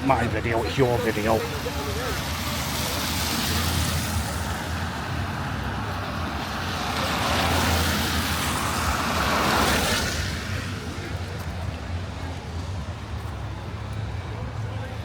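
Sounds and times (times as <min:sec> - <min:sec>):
tyres hissing on wet road: 0:00.0 - 0:14.6.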